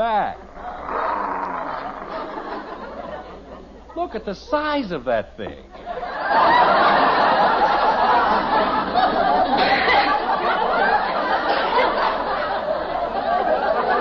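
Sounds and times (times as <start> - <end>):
audience laughing: 0.6 - 4.2, 5.8 - 14.0.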